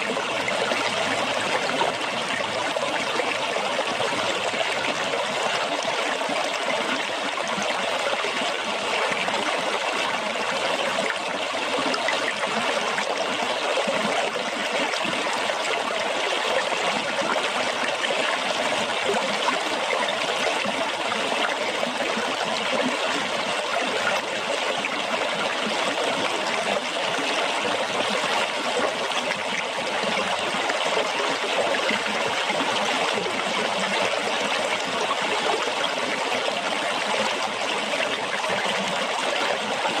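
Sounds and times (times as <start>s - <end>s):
water flowing and splashing: 0.0s - 40.0s.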